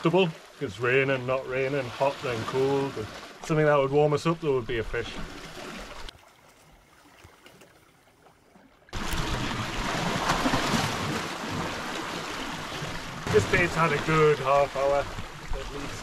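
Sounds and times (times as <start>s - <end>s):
small waves lapping over rocks: 0.1s - 3.7s, 5.0s - 16.0s.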